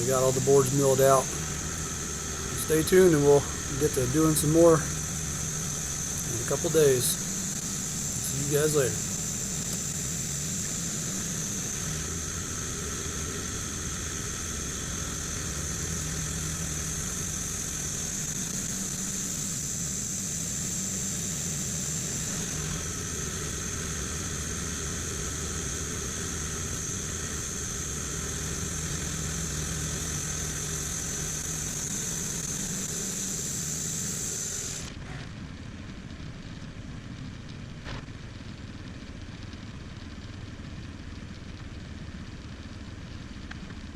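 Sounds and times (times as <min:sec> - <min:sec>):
engine idling: 0:00.0 - 0:43.9
high steady whine: 0:00.0 - 0:43.9.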